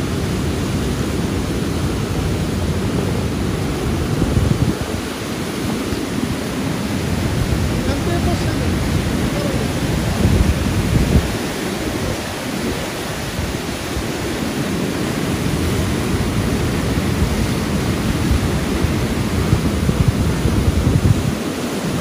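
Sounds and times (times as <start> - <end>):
whitewater rapids rushing: 0.0 - 22.0.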